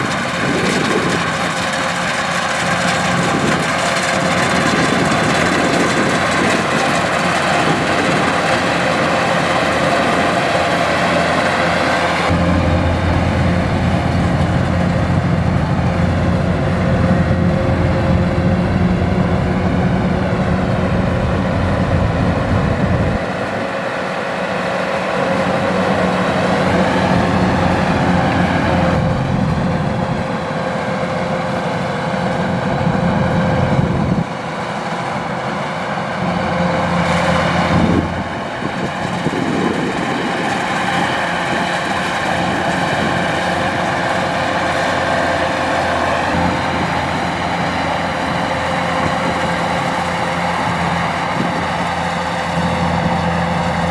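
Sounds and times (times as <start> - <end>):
combine harvester droning: 0.0 - 53.9.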